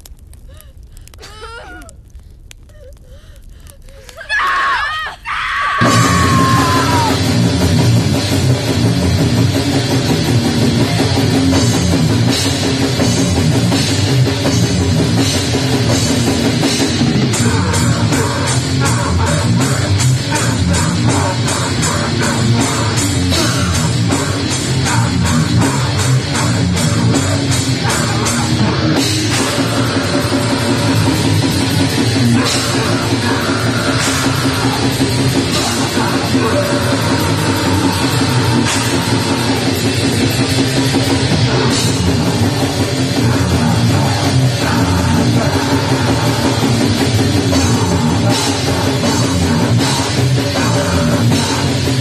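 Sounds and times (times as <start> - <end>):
heavy metal music: 5.8 - 52.0
pulsing drum hits: 5.8 - 52.0.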